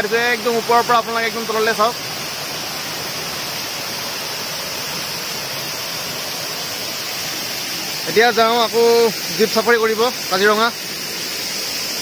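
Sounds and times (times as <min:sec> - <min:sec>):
waterfall pouring into pool: 0:00.0 - 0:12.0.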